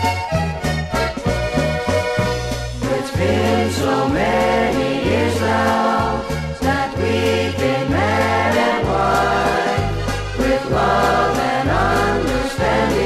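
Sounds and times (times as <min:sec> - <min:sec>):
accordion polka music: 0:00.0 - 0:13.0.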